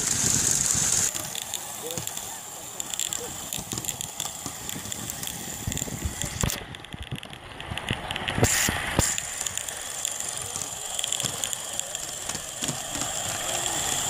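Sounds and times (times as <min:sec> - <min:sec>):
model steam locomotive running: 0:00.0 - 0:14.0.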